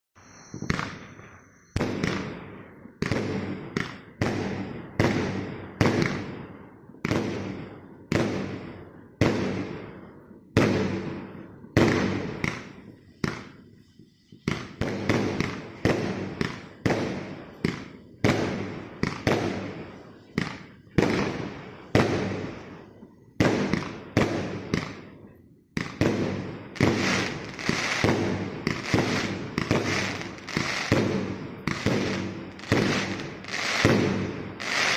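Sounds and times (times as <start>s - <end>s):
fireworks bangs and crackling: 0.2s - 34.9s.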